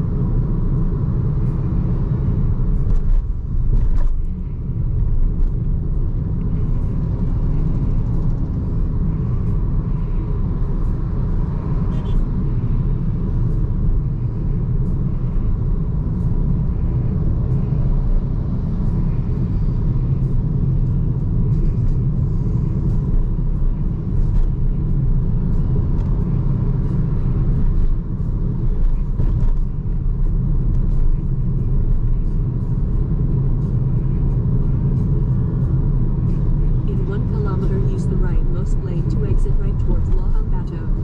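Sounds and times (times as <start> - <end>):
tyre and road noise: 0.0 - 41.0.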